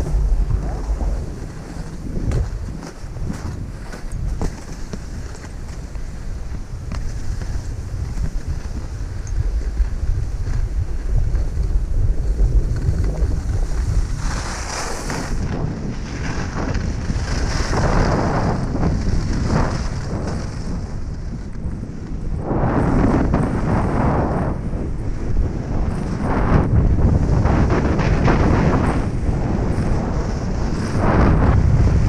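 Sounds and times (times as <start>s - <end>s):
skis sliding on snow: 0.0s - 32.0s
wind buffeting microphone: 0.0s - 32.0s.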